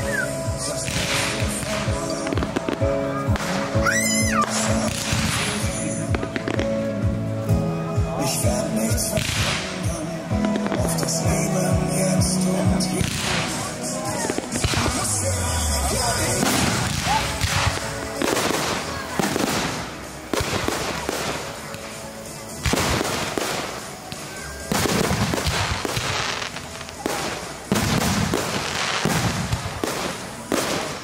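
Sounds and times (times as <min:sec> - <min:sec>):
fireworks banging: 0:00.0 - 0:31.0
fireworks crackling: 0:00.0 - 0:31.0.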